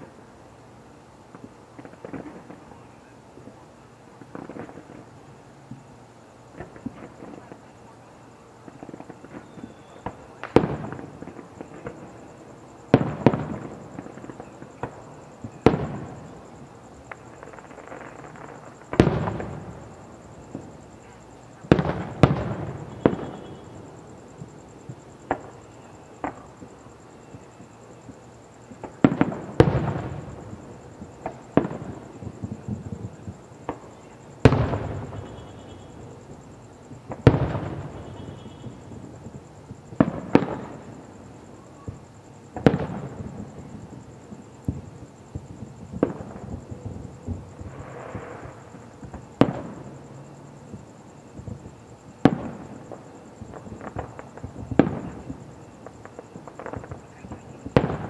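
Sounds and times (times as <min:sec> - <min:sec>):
fireworks bangs: 0:01.3 - 0:58.0.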